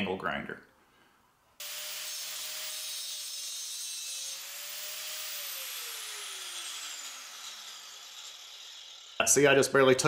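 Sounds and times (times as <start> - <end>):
grinder disc spinning down: 1.6 - 9.8
angle grinder grinding steel: 1.6 - 10.0.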